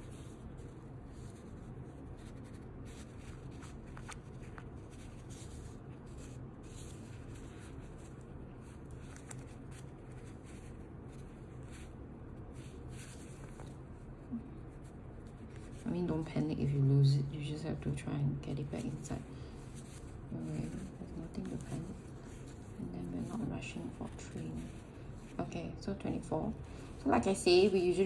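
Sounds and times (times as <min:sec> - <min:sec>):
steady low hum: 0:00.0 - 0:28.0
yarn and crochet hook rustling: 0:00.0 - 0:28.0.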